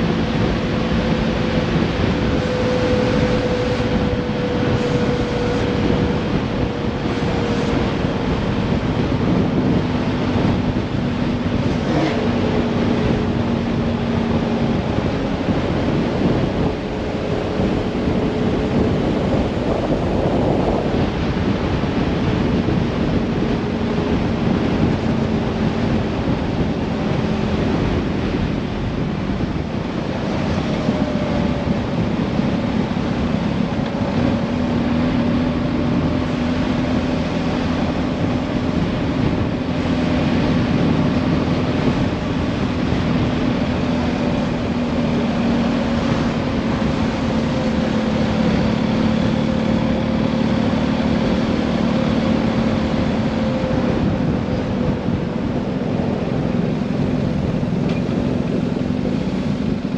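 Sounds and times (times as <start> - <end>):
vehicle engine running: 0.0 - 59.9
wind rush on microphone: 0.0 - 59.9.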